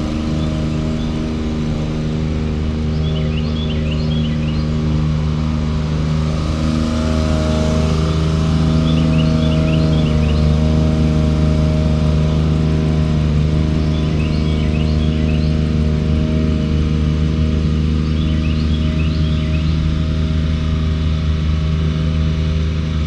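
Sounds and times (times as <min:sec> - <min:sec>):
small birds chirping: 0:00.0 - 0:21.1
low droning hum: 0:00.0 - 0:23.0.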